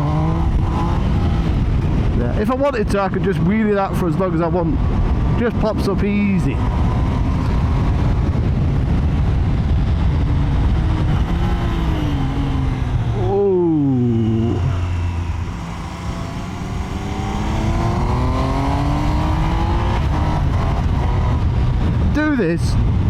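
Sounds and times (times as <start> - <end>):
motorcycle engine revving: 0.0 - 2.7, 4.5 - 22.2.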